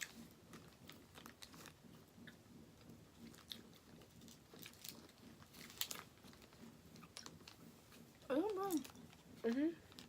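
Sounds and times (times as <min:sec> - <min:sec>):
faint chewing of candy: 0:00.0 - 0:10.0.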